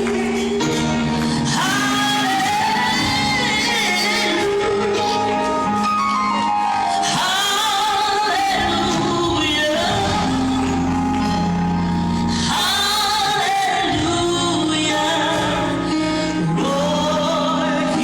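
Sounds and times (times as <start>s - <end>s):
woman singing with vibrato: 0.0s - 5.8s, 6.9s - 11.2s, 12.2s - 18.0s
band accompaniment: 0.0s - 18.0s.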